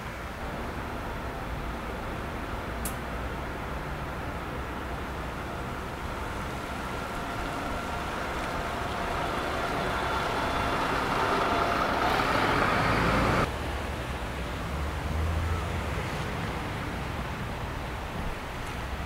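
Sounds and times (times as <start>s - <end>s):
bus passing on wet road: 0.0s - 19.0s
street traffic: 0.0s - 19.0s.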